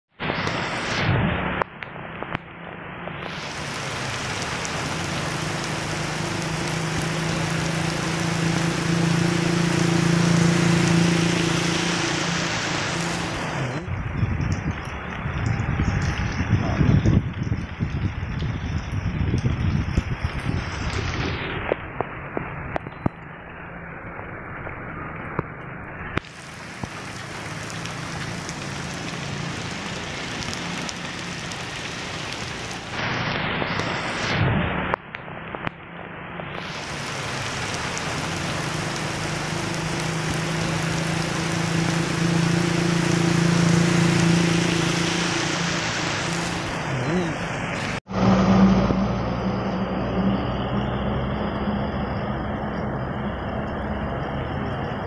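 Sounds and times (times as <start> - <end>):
heavy rain hissing: 0.2 - 2.2, 3.1 - 22.8, 26.1 - 35.4, 36.2 - 55.0.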